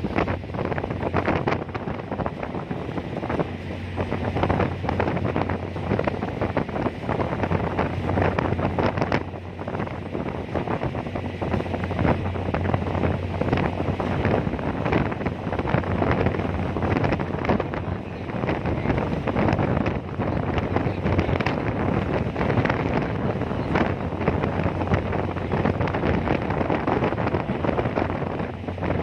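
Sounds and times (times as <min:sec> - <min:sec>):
low engine hum: 0:00.0 - 0:29.0
wind buffeting microphone: 0:00.0 - 0:29.0.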